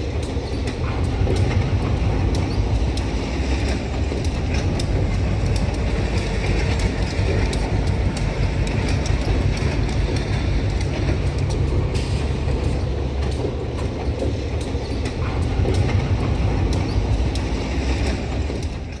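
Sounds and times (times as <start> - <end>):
freight train rumbling: 0.0 - 19.0
wheels clicking over rail joints: 0.0 - 19.0.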